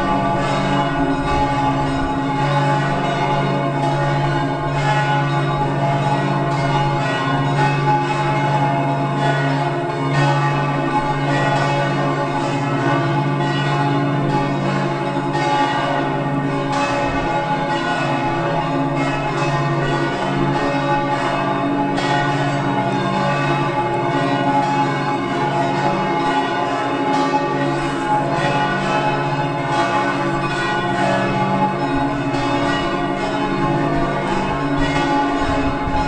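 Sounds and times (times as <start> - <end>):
church bells ringing in a peal: 0.0 - 36.0.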